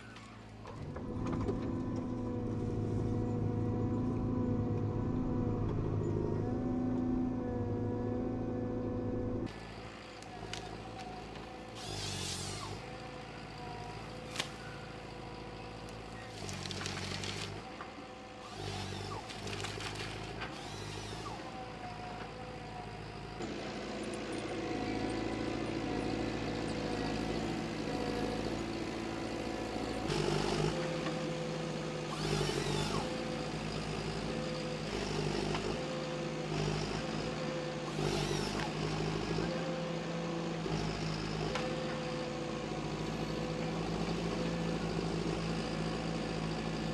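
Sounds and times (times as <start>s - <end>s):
harvester diesel engine and hydraulics: 0.0s - 46.9s.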